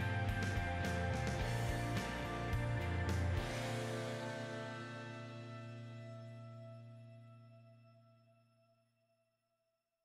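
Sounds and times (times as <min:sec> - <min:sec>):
bass line: 0:00.0 - 0:08.3
sustained music chords: 0:00.0 - 0:08.3.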